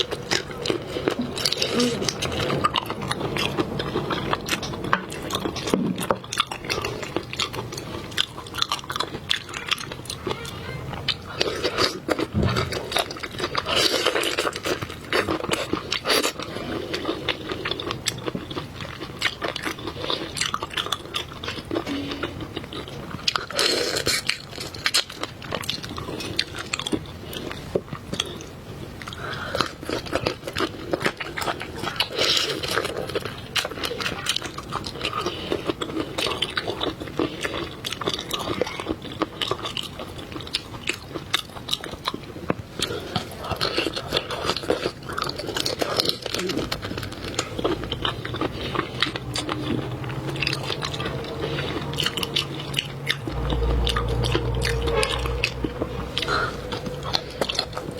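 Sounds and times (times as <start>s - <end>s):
crunching and chewing seafood: 0.0s - 57.9s.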